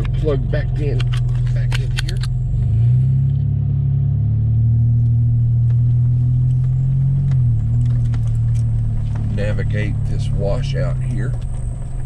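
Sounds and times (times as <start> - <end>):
truck engine droning in cab: 0.0 - 12.0.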